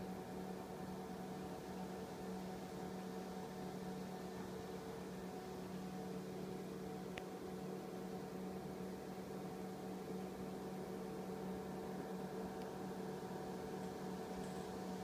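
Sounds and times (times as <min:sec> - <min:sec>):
equipment fan hum and hiss: 0:00.0 - 0:15.0.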